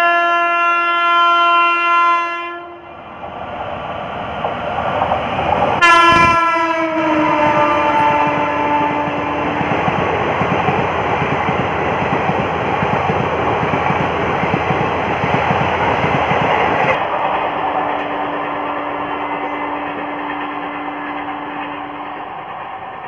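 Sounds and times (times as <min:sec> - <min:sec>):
train wheels clattering on rail: 0:03.2 - 0:23.0.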